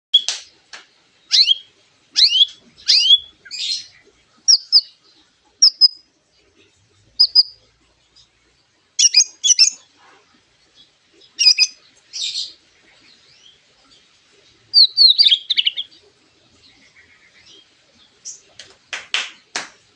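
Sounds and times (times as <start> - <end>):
bird chirping: 1.2 - 18.8.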